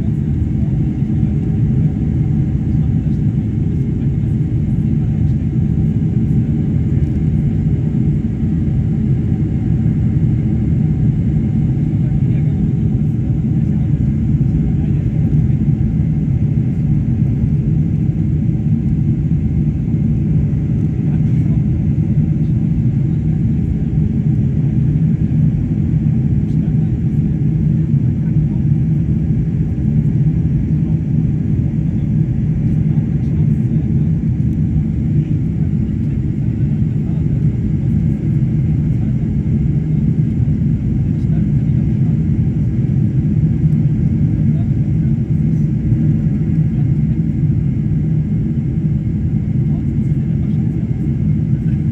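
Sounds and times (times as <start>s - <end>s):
jet cabin rumble: 0.0s - 51.9s.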